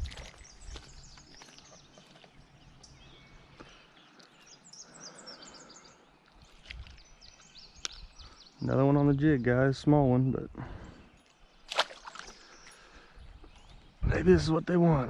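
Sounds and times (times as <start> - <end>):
faint river: 0.0 - 15.0
songbirds chirping: 0.0 - 15.0.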